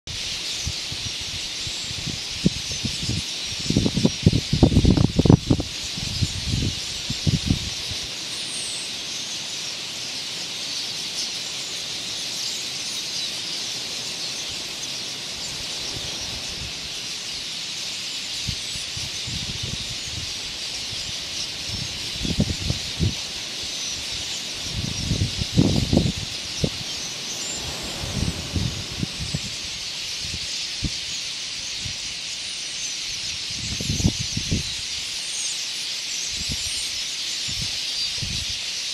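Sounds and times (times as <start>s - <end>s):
flock of small birds chirping: 0.0s - 38.9s.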